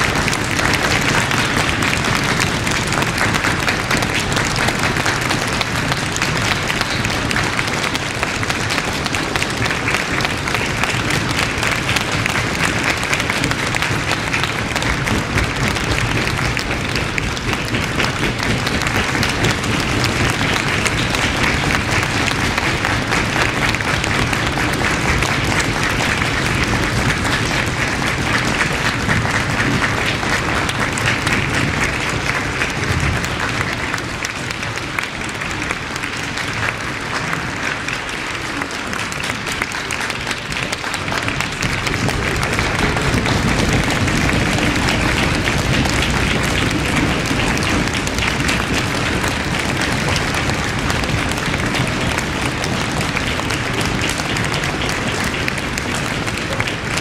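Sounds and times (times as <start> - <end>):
audience applauding: 0.0 - 57.0.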